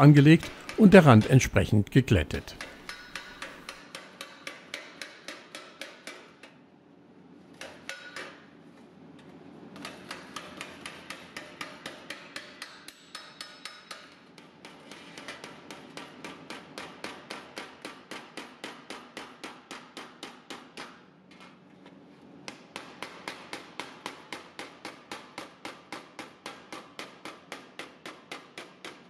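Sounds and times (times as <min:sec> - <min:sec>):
hammer tapping sheet steel: 0:00.4 - 0:06.6, 0:07.6 - 0:08.5, 0:09.8 - 0:21.0, 0:22.5 - 0:29.0.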